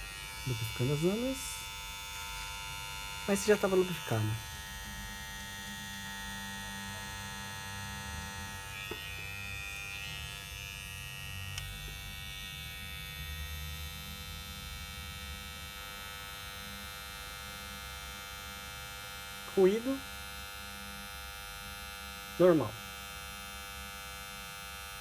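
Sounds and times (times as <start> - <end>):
hair trimmer buzzing: 0.0 - 25.0.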